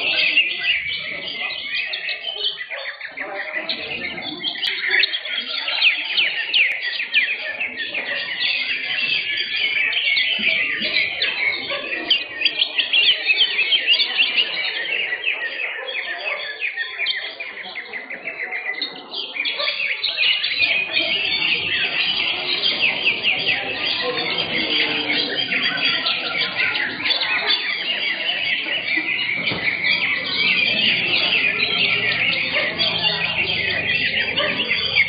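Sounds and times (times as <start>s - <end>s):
bird singing rapid chirps and trills: 0.0s - 35.0s.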